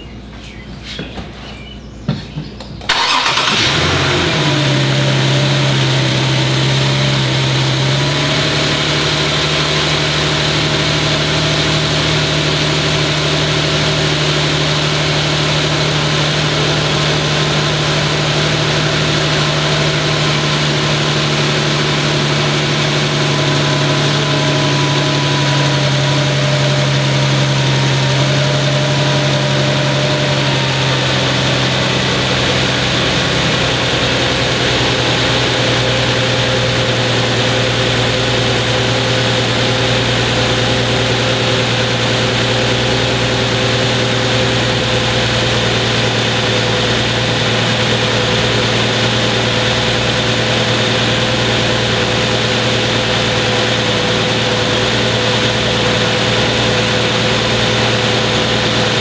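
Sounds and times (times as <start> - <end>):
car engine starting and idling: 1.8 - 59.0
engine ticking and tapping: 2.1 - 59.0.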